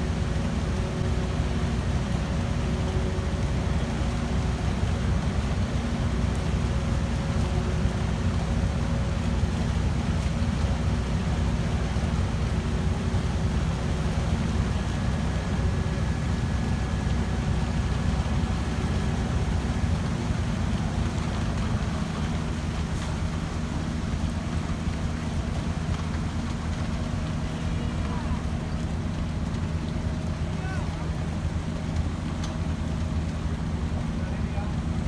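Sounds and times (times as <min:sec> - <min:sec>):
faint steady whines: 0:00.0 - 0:35.0
low engine rumble: 0:00.0 - 0:35.0.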